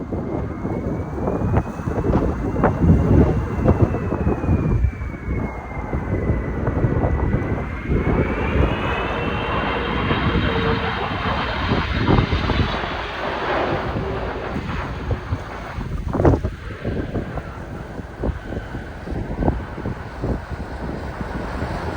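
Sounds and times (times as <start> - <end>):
jet engine whine: 0.0 - 21.9
wind buffeting microphone: 0.0 - 21.9.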